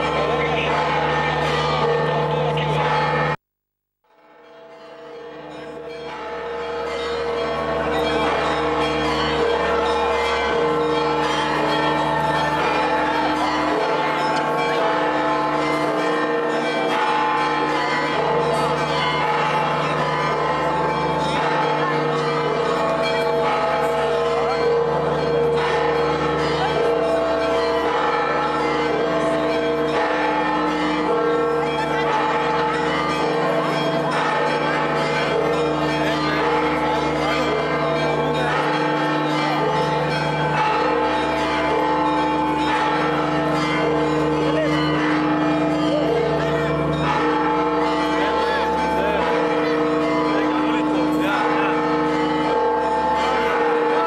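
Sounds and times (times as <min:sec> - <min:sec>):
church bells pealing: 0:00.0 - 0:03.4, 0:04.1 - 0:54.0.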